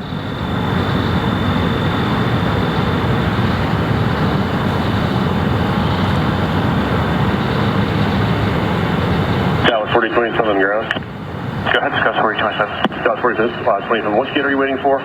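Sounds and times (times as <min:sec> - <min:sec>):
high engine whine: 0:00.0 - 0:15.0
jet engines running: 0:00.0 - 0:15.0.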